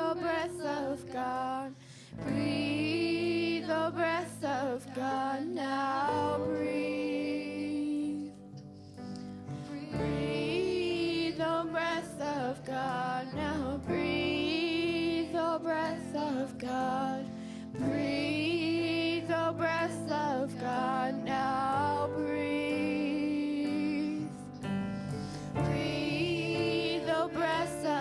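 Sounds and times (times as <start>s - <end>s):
worship band playing slow song: 0.0s - 28.0s.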